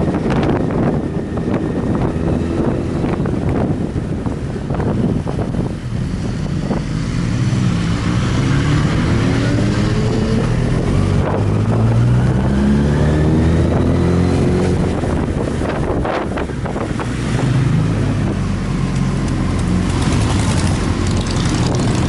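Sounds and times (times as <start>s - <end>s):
motorcycle engine accelerating: 0.0s - 22.0s
wind on microphone: 0.0s - 22.0s.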